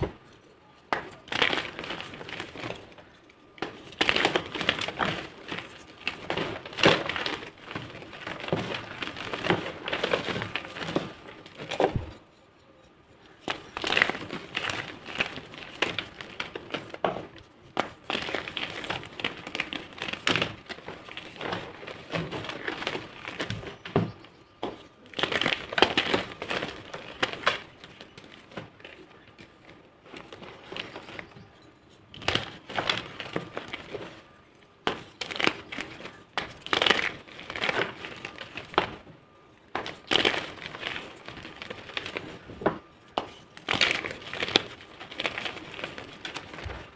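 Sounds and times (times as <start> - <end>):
chalk crushing and crunching: 0.0 - 46.9.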